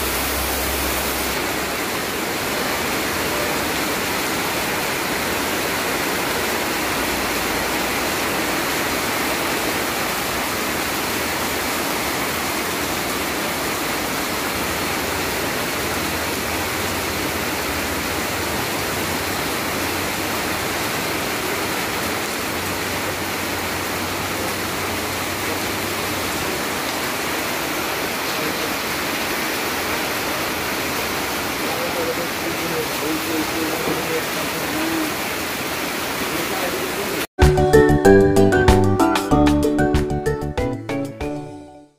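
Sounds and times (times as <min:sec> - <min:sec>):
heavy rain falling: 0:00.0 - 0:39.4.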